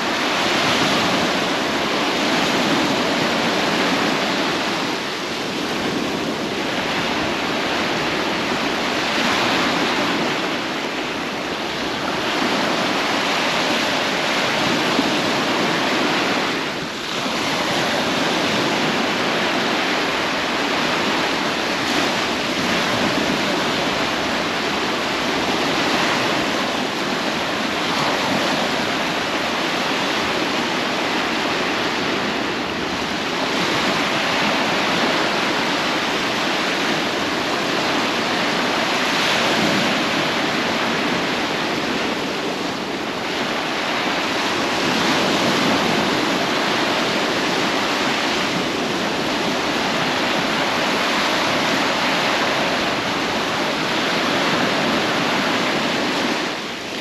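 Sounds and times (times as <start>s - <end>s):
sea surf washing onto beach: 0.0s - 57.0s.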